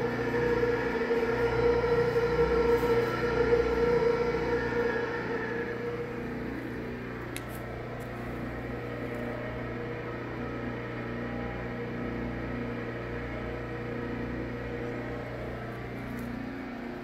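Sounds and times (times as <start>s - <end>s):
motor humming steadily: 0.0s - 17.0s.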